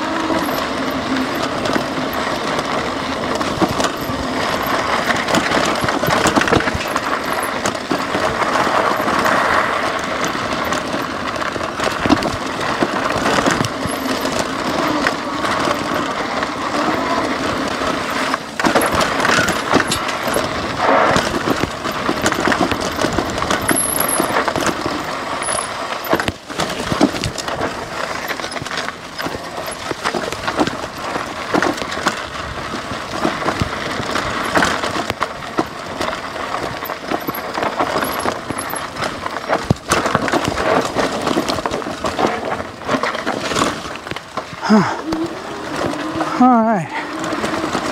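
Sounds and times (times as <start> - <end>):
tyres crunching over gravel: 0.0 - 47.9
bike frame clattering: 0.1 - 16.8, 17.4 - 44.8.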